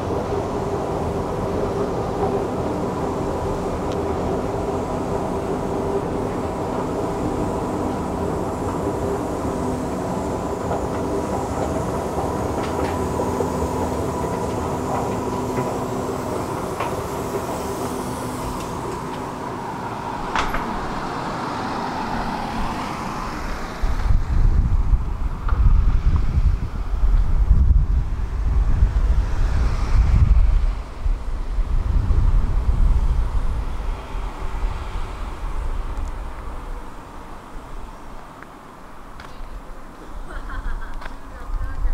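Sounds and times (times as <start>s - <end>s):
escalator mechanical hum: 0.0s - 41.9s
wind rumbling on microphone: 0.0s - 41.9s.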